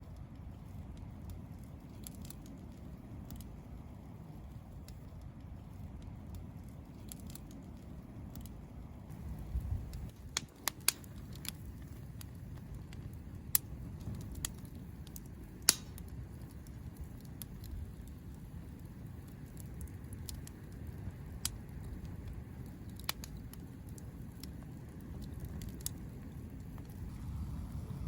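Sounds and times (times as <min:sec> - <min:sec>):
campfire crackling and popping: 0:00.0 - 0:28.0
steady low rumble: 0:00.0 - 0:28.0.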